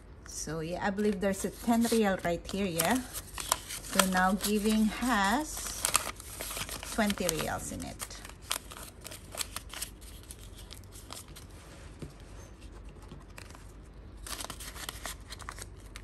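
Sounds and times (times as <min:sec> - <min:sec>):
banknotes crinkling and rustling: 0:01.0 - 0:11.6, 0:12.5 - 0:16.0
paper envelope being folded: 0:01.0 - 0:11.6, 0:12.6 - 0:16.0.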